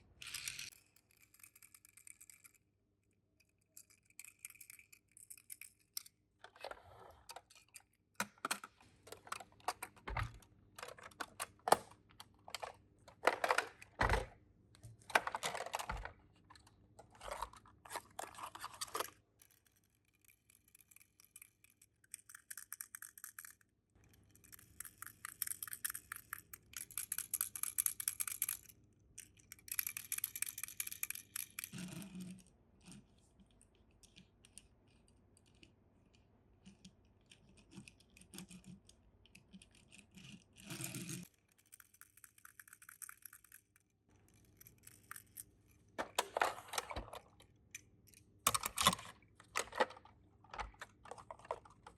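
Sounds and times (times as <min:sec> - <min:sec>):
toy cars clicking and knocking: 0:00.2 - 0:06.2, 0:07.2 - 0:51.9.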